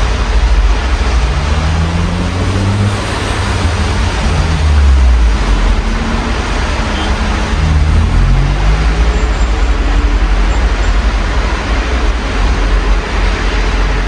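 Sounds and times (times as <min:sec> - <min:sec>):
road traffic: 0:00.0 - 0:14.0
steady rain: 0:00.0 - 0:14.0
vehicle engine rumble: 0:00.0 - 0:14.0.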